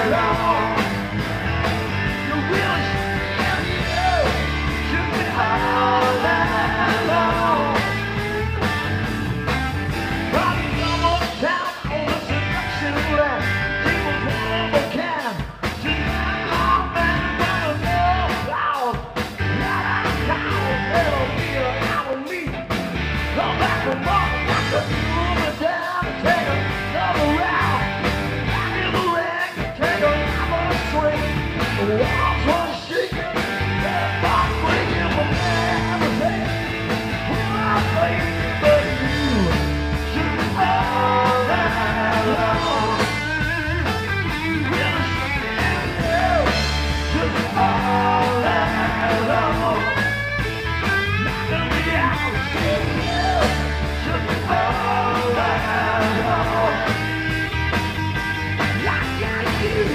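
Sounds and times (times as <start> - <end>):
bass guitar: 0.0 - 59.9
drum kit beat: 0.0 - 59.9
electric guitar: 0.0 - 59.9.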